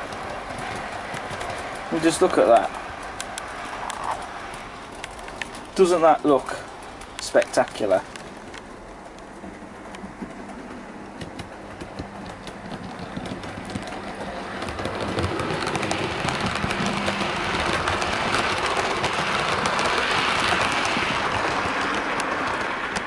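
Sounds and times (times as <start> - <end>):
model train rattling rumble: 0.0 - 23.0.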